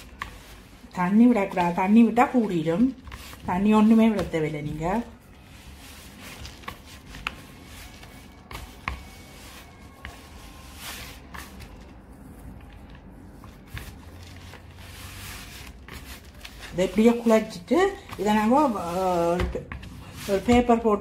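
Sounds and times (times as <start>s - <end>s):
hand kneading dry dough: 0.0s - 21.0s.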